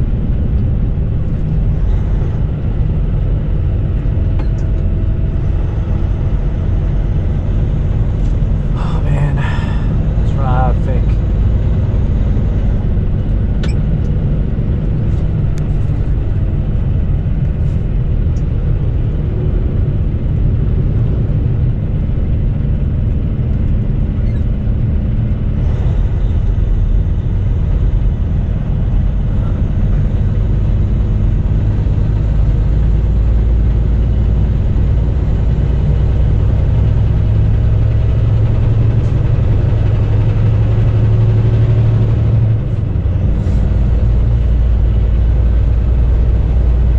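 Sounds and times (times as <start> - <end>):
road noise: 0.0 - 46.9
truck diesel engine rumble: 0.0 - 46.9.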